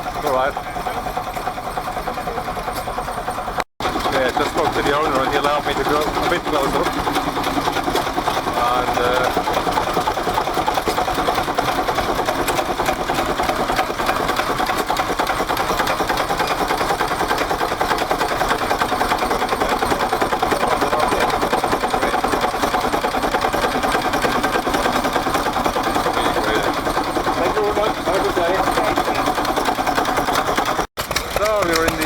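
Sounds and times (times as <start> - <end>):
stationary engine clattering: 0.0 - 32.0.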